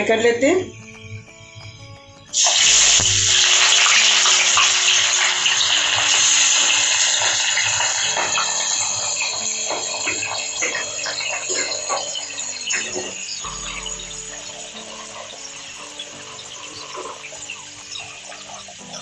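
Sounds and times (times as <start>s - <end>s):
onions sizzling in hot oil: 2.3s - 19.0s.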